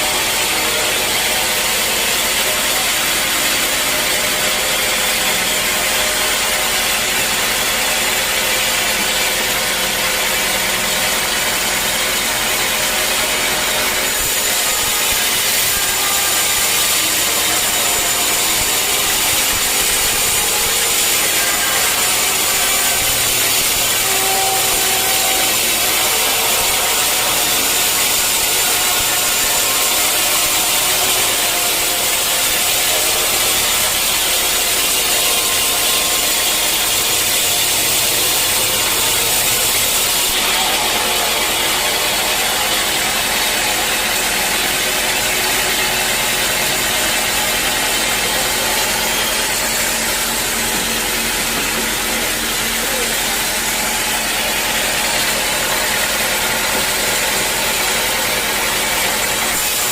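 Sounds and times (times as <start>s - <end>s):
sawmill saw and machinery running: 0.0s - 59.9s.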